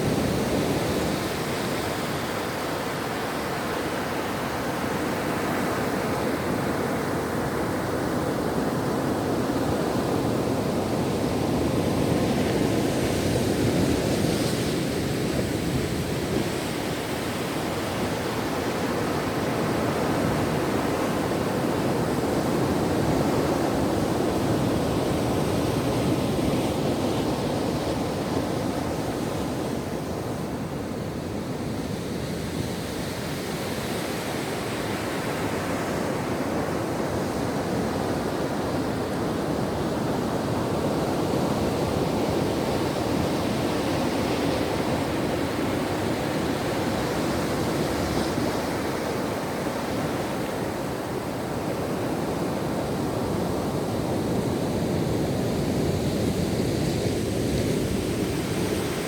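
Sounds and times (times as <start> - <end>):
ocean surf washing on shore: 0.0 - 59.0.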